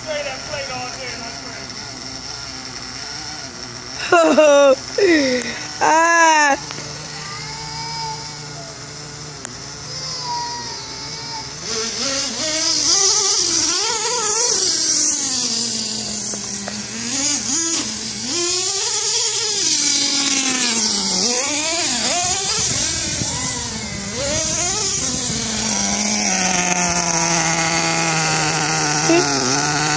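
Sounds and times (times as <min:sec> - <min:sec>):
model truck engine revving: 0:00.0 - 0:29.9.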